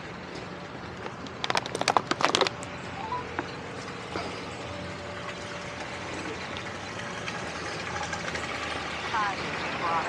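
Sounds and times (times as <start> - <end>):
water pump running: 0.0 - 10.0
water trickling: 0.0 - 10.0.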